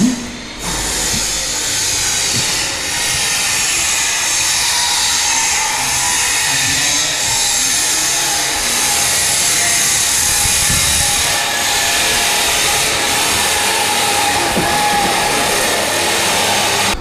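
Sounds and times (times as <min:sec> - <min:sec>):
loud hiss: 0:00.0 - 0:17.0
power tool whining: 0:00.0 - 0:17.0.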